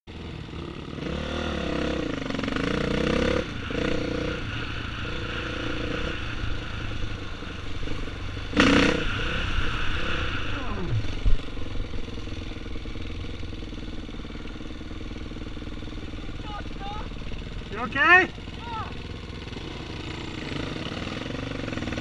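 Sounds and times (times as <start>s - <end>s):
dirt bike engine revving: 0.1s - 22.0s.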